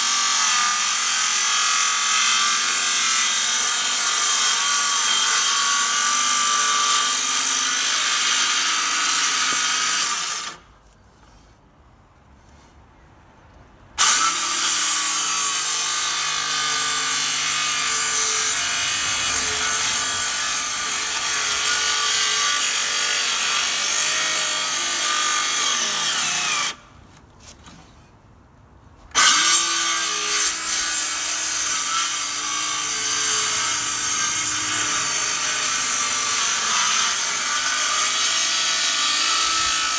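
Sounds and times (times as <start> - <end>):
circular saw cutting wood: 0.0 - 10.6, 14.0 - 26.8, 29.1 - 39.9.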